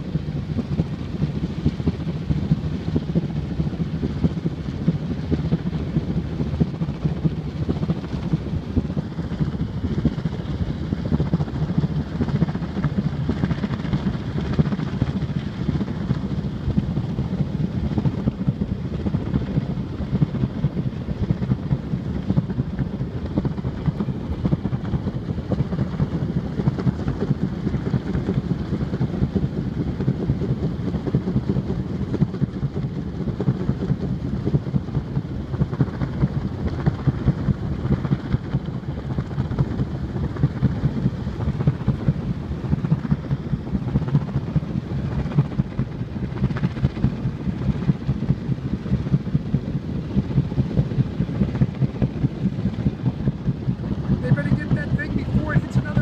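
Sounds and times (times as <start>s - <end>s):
helicopter drone with rapid flutter: 0.0s - 56.0s.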